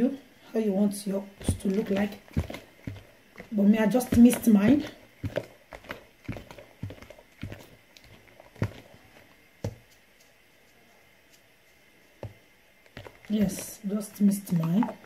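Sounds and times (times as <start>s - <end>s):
hand squishing wet batter: 1.2s - 15.0s.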